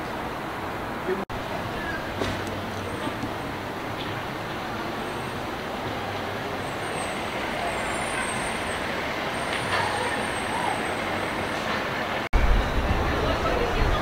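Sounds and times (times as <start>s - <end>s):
passing vehicles: 0.0s - 14.0s
faint voices: 1.0s - 14.0s.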